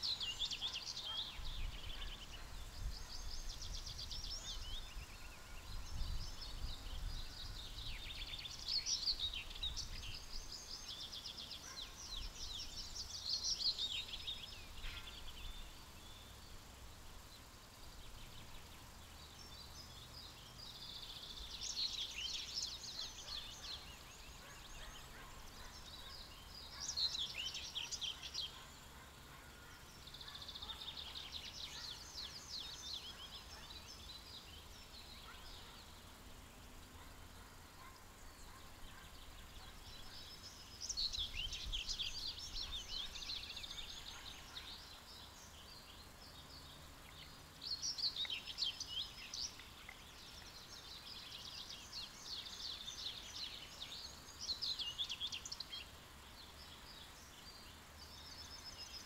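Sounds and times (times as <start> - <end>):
songbirds trilling: 0.0 - 59.0.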